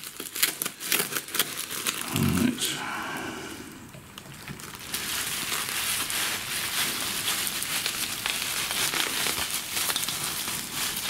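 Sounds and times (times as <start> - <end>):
bubble wrap crinkling: 0.0 - 2.6, 4.2 - 11.0.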